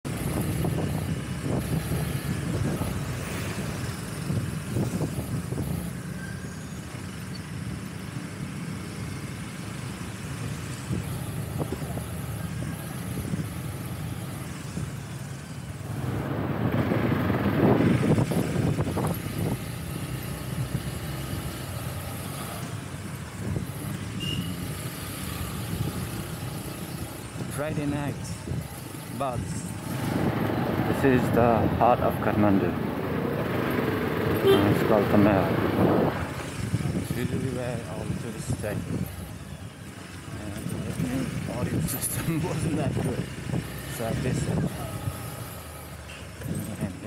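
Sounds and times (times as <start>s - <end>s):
surrounding traffic: 0.0s - 47.0s
motorcycle engine rumble: 0.1s - 47.0s.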